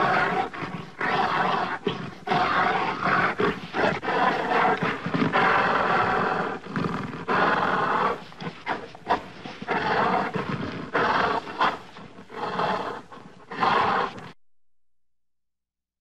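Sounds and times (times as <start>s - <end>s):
gorilla roaring: 0.0s - 14.3s.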